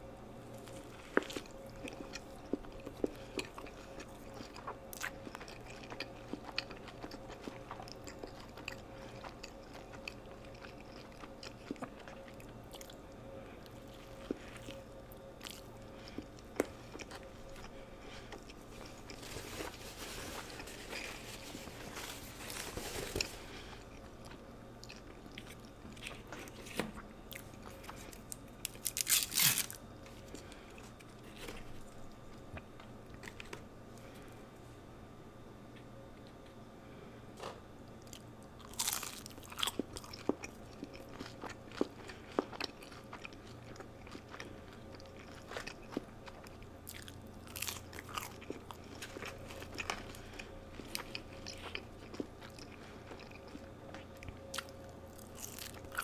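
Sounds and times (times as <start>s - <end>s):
faint steady hum: 0.0s - 56.0s
person chewing and crunching food: 0.3s - 34.4s, 37.4s - 56.0s.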